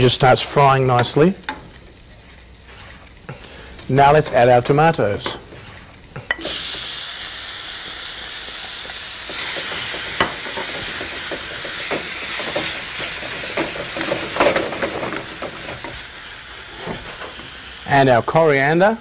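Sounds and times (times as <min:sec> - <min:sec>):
tomatoes sizzling in a pan: 0:00.0 - 0:19.0.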